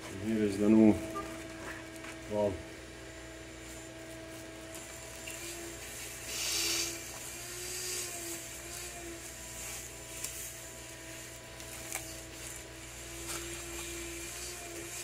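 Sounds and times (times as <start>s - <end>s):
mechanical hum with faint whine: 0.0s - 15.0s.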